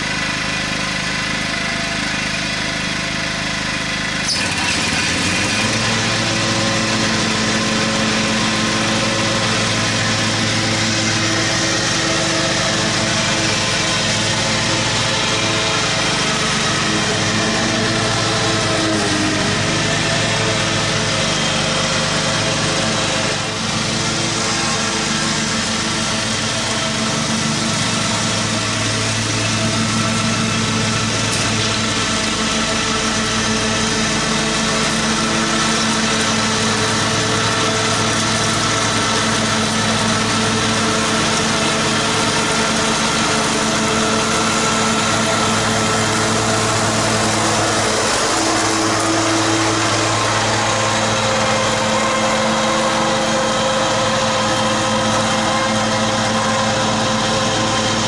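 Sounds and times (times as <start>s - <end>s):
riding lawn mower engine: 0.0s - 58.0s.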